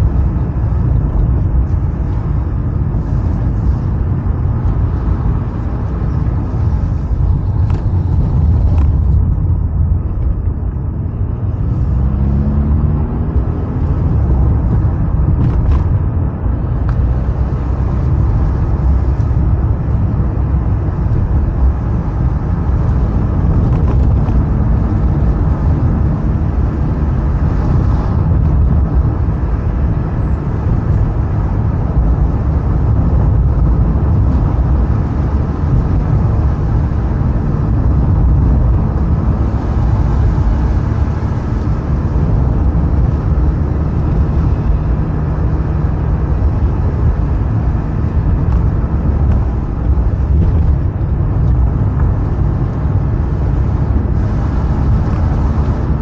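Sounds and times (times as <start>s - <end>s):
car engine and tyre noise: 0.0s - 56.0s.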